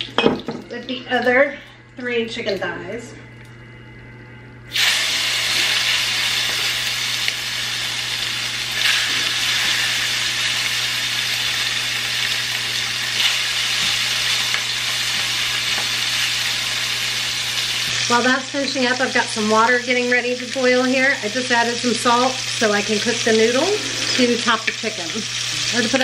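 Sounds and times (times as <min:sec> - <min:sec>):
chicken sizzling in hot oil: 0:04.7 - 0:26.0.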